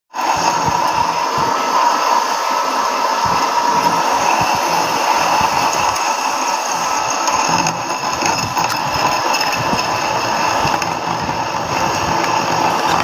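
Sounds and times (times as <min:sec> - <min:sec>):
lathe drone with whine: 0:00.1 - 0:13.0.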